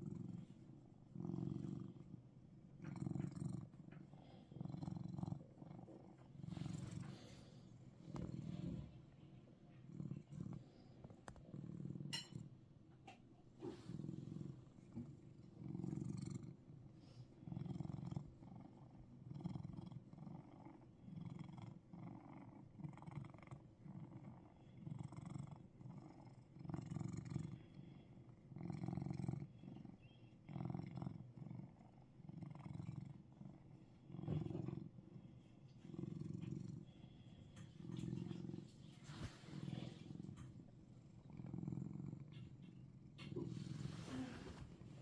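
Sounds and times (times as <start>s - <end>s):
cat purring: 0.0s - 45.0s.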